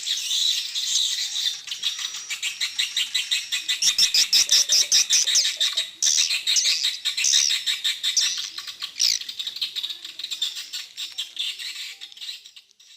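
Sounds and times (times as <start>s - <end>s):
small birds twittering: 0.0s - 12.9s.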